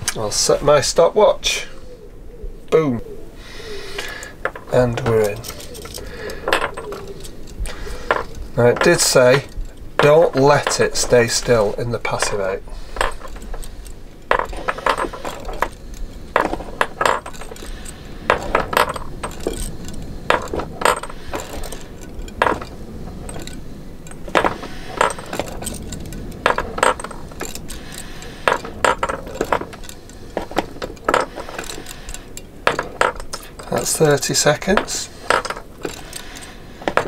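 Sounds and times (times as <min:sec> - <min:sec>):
metal nuts and bolts clinking: 0:04.0 - 0:37.0.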